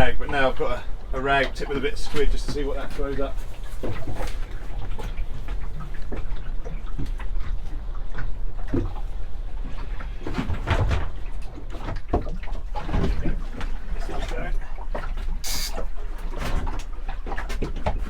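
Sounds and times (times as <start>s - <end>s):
water slapping boat hull: 0.0s - 18.0s.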